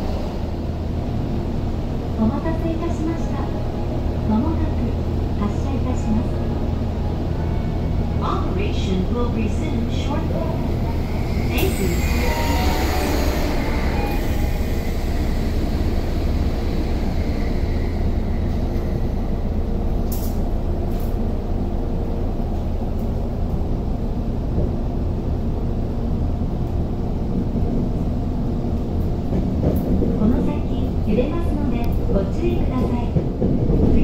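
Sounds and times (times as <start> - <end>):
subway train rumble and hum: 0.0 - 34.0.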